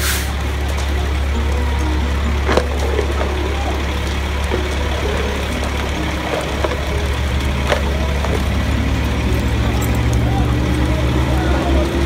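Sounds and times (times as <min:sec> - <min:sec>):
distant voices: 0:00.0 - 0:12.0
fire engine engine droning: 0:00.0 - 0:12.0.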